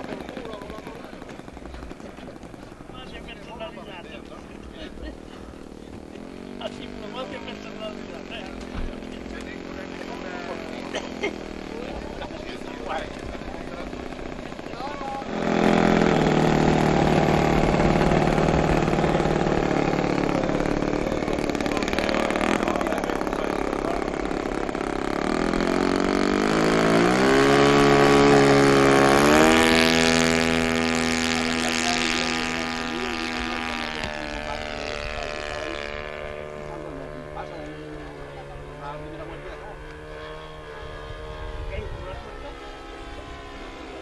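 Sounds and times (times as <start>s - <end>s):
model airplane engine running: 0.0s - 44.0s.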